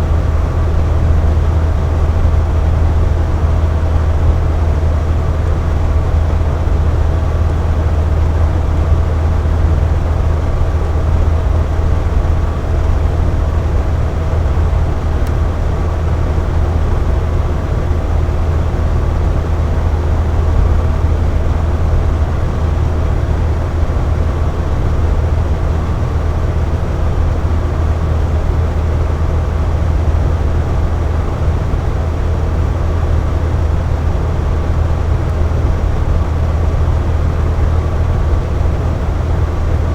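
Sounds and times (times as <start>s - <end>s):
box fan running: 0.0s - 39.9s.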